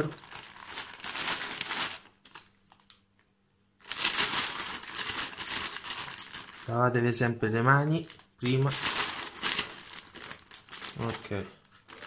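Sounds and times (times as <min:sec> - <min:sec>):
plastic bag crinkling: 0:00.0 - 0:03.0, 0:03.8 - 0:07.0, 0:07.6 - 0:12.0.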